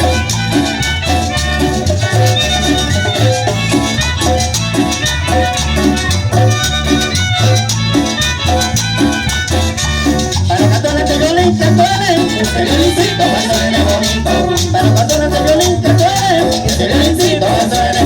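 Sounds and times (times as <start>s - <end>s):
band playing cumbia: 0.0s - 18.0s
strong bass line: 0.0s - 18.0s.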